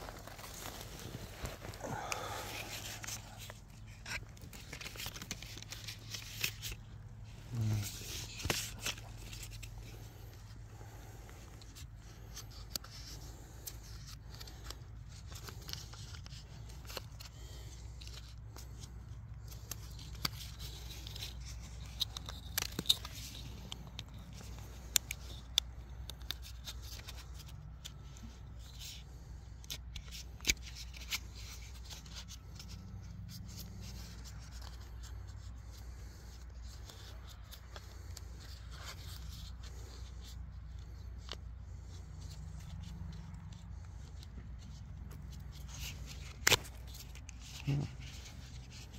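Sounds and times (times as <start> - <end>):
plastic tubing rustling and scraping: 0.0 - 48.9.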